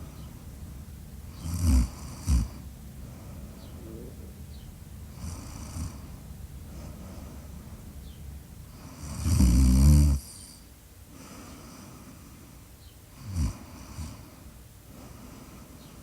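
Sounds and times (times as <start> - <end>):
quiet breathing: 0.0 - 9.2, 10.2 - 16.0.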